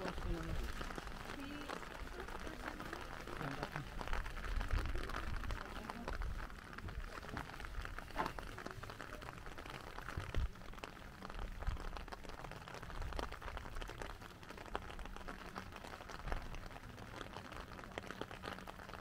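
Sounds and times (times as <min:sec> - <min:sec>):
light rain falling: 0:00.0 - 0:19.0.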